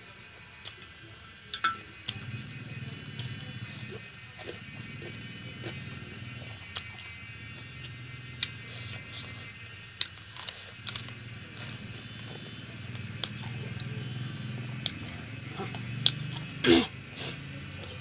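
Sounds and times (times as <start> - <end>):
chewing crunches: 2.0 - 18.0.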